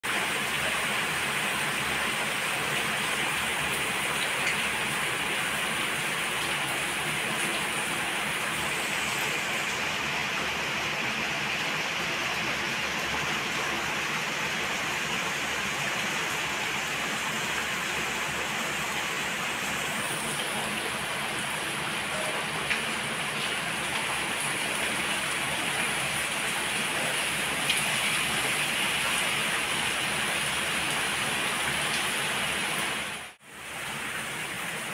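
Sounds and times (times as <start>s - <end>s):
heavy rain falling: 0.0s - 34.9s
sharp rain spatters: 0.1s - 34.9s.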